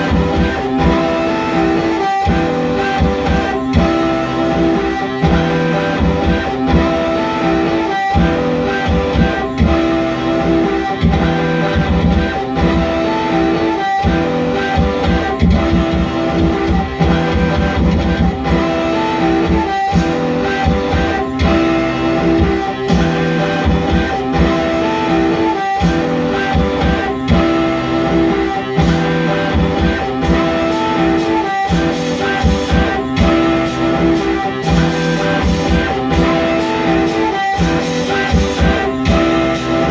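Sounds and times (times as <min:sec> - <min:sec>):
electric guitar music: 0:00.0 - 0:39.9.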